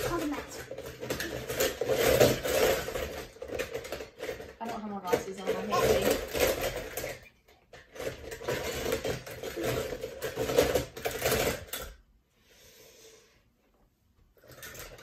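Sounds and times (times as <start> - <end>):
toy cars clattering in plastic bowl: 0.0 - 12.0, 14.4 - 15.0.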